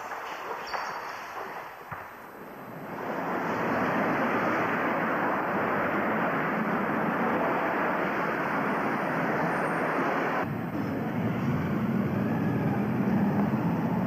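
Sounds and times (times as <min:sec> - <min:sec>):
steady rushing rumble: 0:01.9 - 0:14.0.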